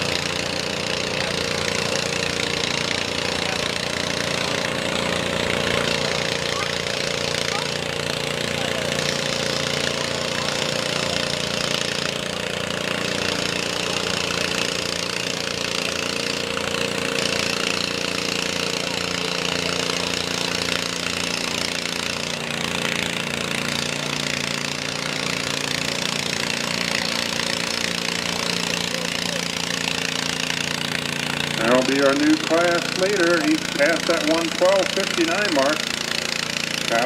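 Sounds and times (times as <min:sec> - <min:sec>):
small engine idling: 0:00.0 - 0:37.0.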